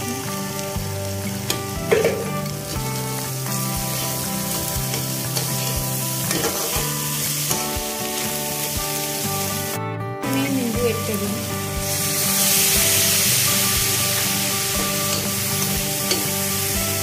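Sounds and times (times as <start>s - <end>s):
background music with soft beat: 0.0s - 10.4s, 11.4s - 17.0s
vegetables sizzling in a pan: 0.0s - 17.0s.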